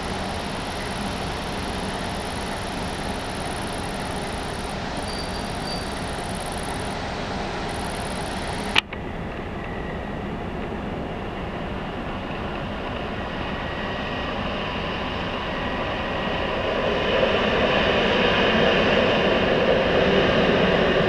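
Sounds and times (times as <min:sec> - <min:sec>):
train approaching: 0:00.0 - 0:21.0.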